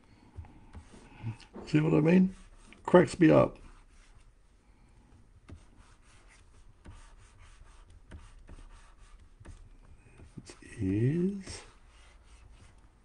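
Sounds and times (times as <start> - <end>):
stylus scratching on tablet: 0.4 - 4.3, 5.4 - 13.0.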